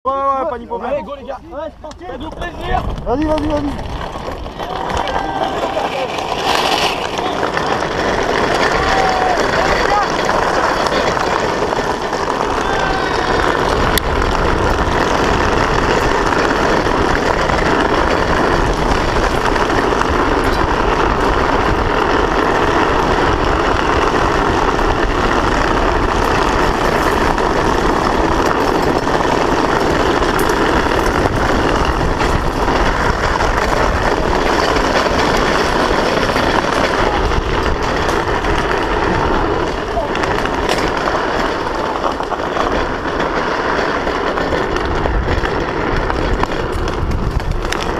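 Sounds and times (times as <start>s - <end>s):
tyres rushing on asphalt: 0.2s - 47.9s
wind buffeting microphone: 0.2s - 47.9s.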